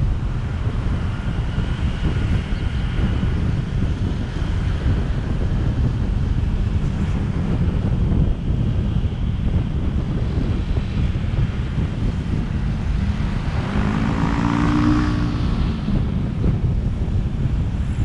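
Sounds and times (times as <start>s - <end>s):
passing vehicle engine hum: 0.0s - 18.0s
road rumble: 0.0s - 18.0s
wind buffeting a moving car: 0.0s - 18.0s.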